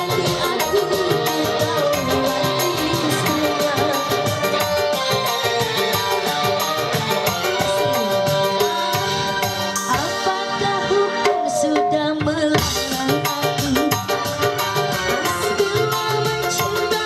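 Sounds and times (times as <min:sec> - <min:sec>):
band music over loudspeakers: 0:00.0 - 0:17.0
guitar: 0:00.0 - 0:17.0
hand drums: 0:00.0 - 0:17.0
keyboard: 0:00.0 - 0:17.0
woman singing: 0:00.0 - 0:17.0.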